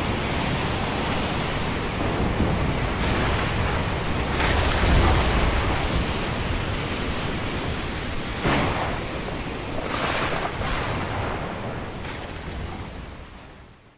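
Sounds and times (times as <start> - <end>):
waves roaring: 0.0 - 13.9
wind: 0.0 - 13.9.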